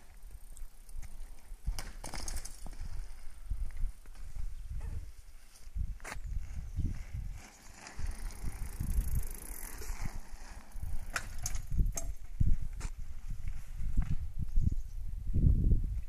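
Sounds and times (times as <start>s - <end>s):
bike tyres rumbling on brick paving: 0.0s - 14.6s.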